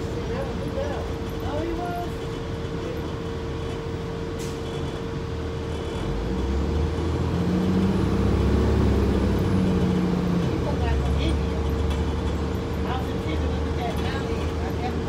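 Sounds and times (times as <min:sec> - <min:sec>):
bus engine whine and rumble: 0:00.0 - 0:15.0.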